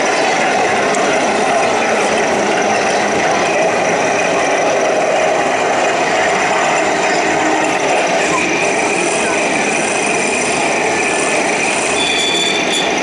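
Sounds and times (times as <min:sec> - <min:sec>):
model tank motors droning: 0:00.0 - 0:13.0.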